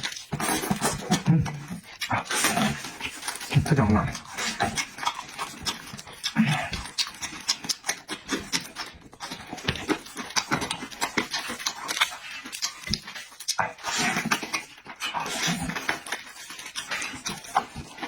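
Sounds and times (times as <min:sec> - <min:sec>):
person chewing and lip-smacking: 0:00.0 - 0:18.0.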